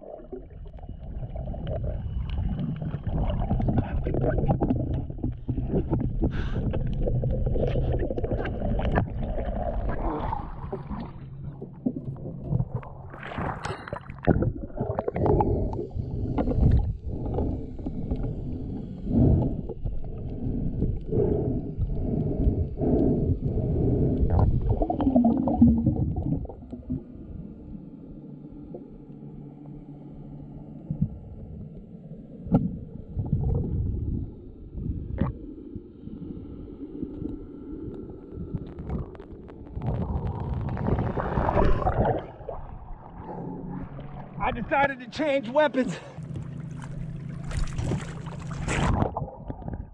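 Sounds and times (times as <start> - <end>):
underwater water sloshing: 0.0 - 49.9.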